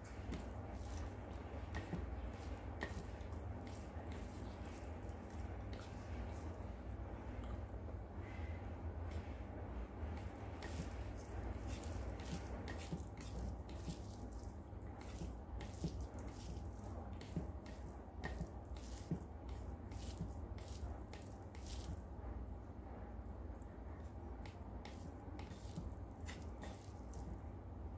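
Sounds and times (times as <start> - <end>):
fingers squishing rice: 0.0 - 7.0, 10.1 - 22.1, 23.6 - 27.6.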